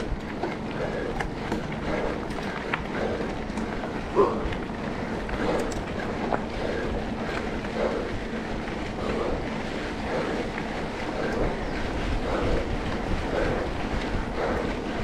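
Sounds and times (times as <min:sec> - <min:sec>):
trail motorcycle engine: 0:00.0 - 0:15.0
wind noise on microphone: 0:00.0 - 0:15.0.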